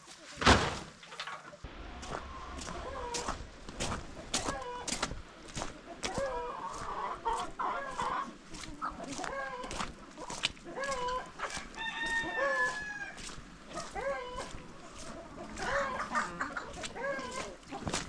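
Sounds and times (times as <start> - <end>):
chickens clucking and calling: 1.0 - 18.0.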